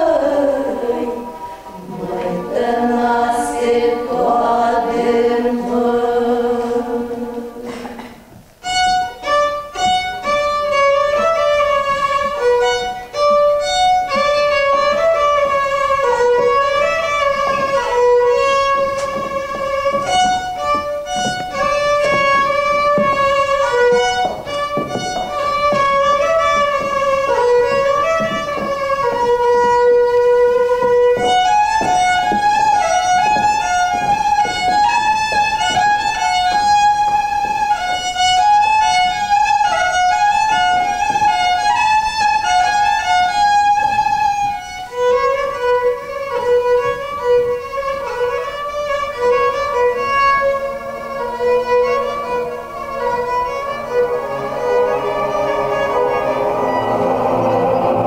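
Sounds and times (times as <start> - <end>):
sustained notes: 0.0 - 8.8, 9.6 - 45.2, 49.7 - 58.0
fiddle playing fast folk dance: 8.6 - 58.0.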